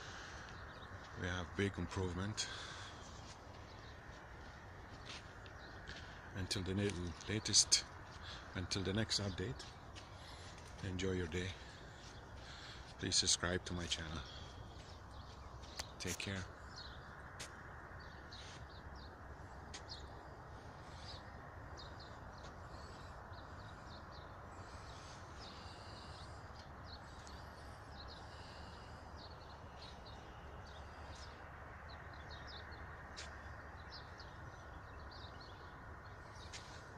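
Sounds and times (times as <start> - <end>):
open-air background hiss: 0.0 - 36.9
small birds chirping: 0.0 - 36.9.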